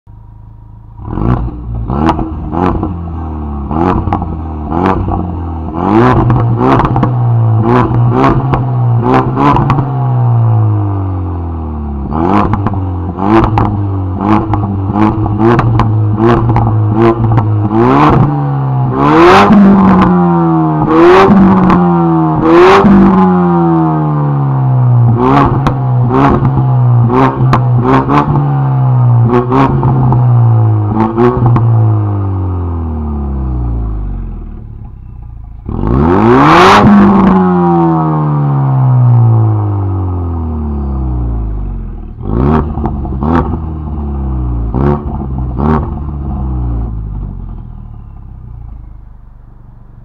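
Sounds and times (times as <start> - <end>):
car engine revving: 0.1 - 50.0.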